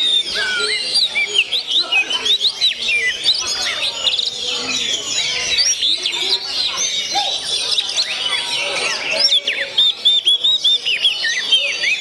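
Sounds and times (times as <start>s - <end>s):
songbird singing whistles and chirps: 0.0s - 12.0s.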